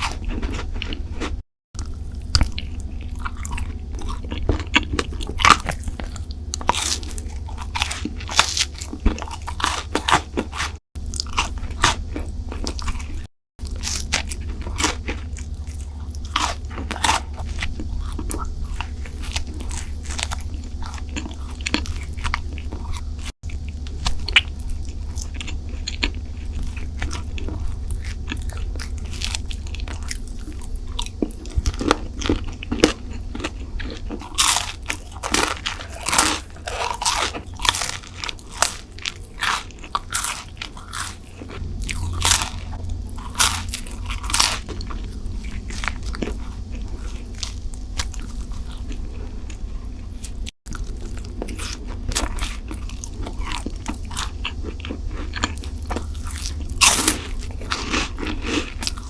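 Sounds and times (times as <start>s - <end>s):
crunchy sweets chewing: 0.0s - 59.0s
steady low hum: 0.0s - 59.0s.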